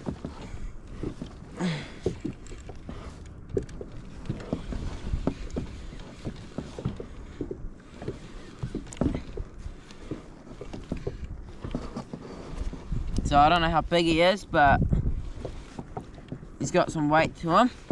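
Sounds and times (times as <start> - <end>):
low rumble of water: 0.0 - 17.9.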